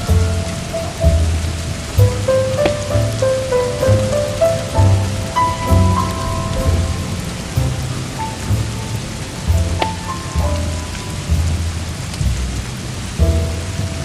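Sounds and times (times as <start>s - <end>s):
heavy rain: 0.0s - 14.0s
rolling thunder: 0.0s - 14.0s
soft jazz music: 0.0s - 14.0s.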